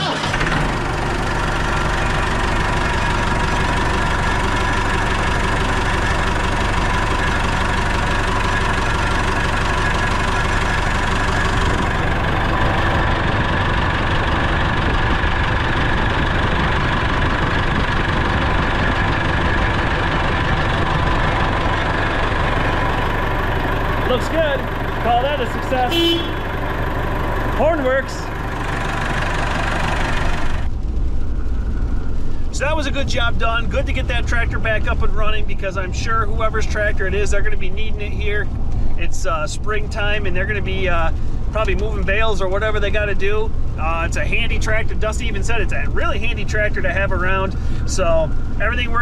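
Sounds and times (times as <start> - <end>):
tractor diesel engine idling: 0.0 - 49.0.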